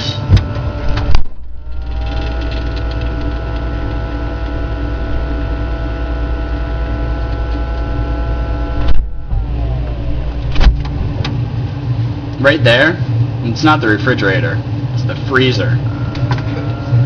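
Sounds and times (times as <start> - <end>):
fan winding down: 0.0 - 17.0
microwave oven humming: 0.0 - 17.0.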